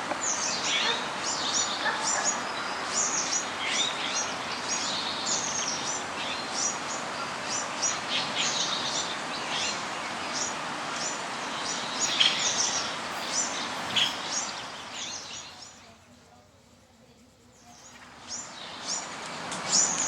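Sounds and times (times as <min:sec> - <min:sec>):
small birds chirping: 0:00.0 - 0:20.0
steady background hiss: 0:00.0 - 0:20.0.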